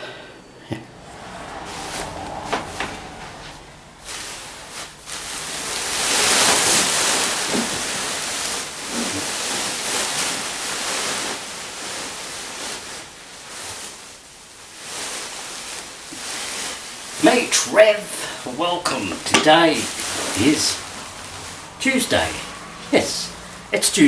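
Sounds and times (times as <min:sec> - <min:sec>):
rushing hissing noise: 0:01.0 - 0:24.0.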